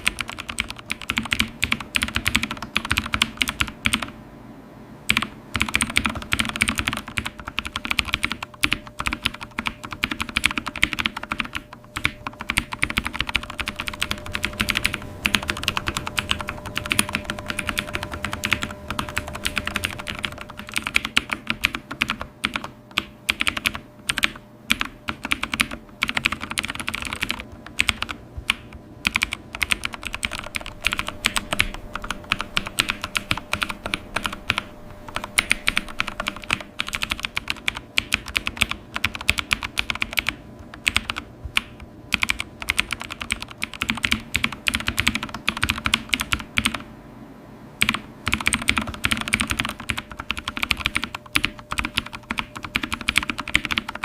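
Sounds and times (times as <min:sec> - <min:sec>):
computer keyboard typing: 0:00.0 - 0:04.2, 0:05.1 - 0:46.9, 0:47.8 - 0:54.0.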